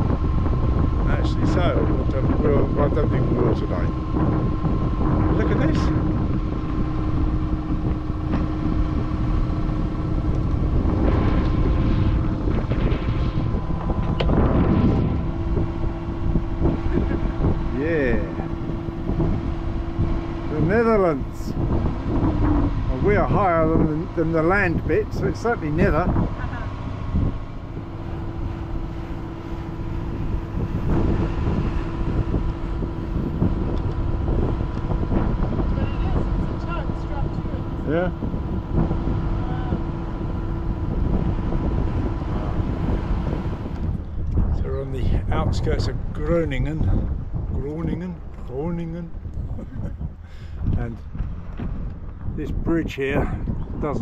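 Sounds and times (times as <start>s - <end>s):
boat engine running: 0.0s - 54.0s
wind buffeting microphone: 0.0s - 54.0s.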